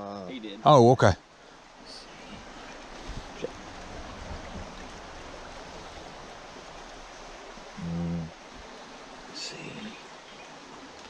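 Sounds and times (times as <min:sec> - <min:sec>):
creek running over rocks: 0:00.0 - 0:11.0.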